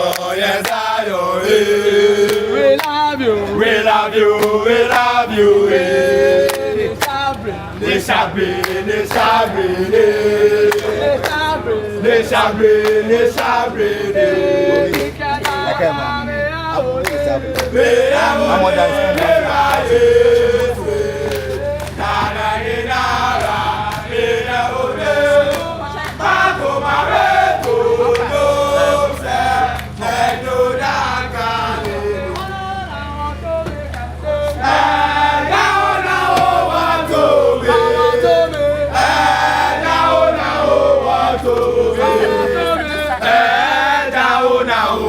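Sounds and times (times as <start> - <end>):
group singing: 0.0 - 45.0
steady low hum: 0.0 - 45.0.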